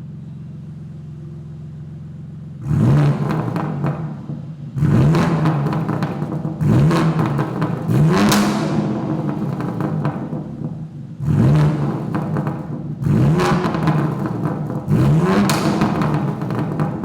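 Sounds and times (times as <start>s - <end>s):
car engine revving: 2.4s - 17.0s.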